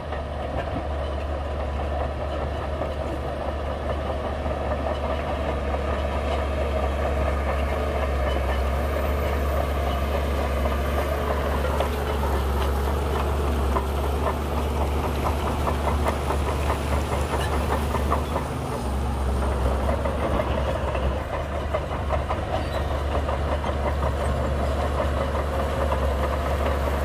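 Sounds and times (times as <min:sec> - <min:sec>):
bulldozer diesel engine droning: 0:00.0 - 0:27.0.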